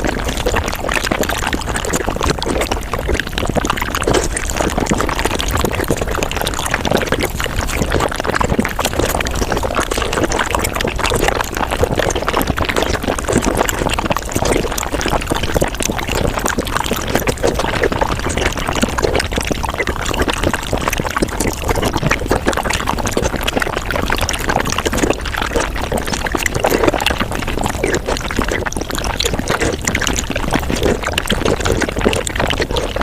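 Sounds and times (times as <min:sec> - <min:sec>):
sped-up eating slurps and chewing: 0:00.0 - 0:33.0.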